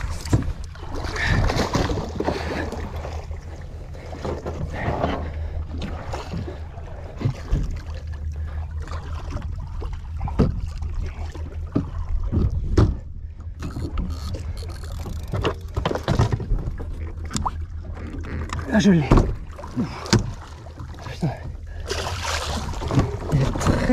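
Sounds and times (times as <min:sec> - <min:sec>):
boat engine hum: 0:00.0 - 0:23.9.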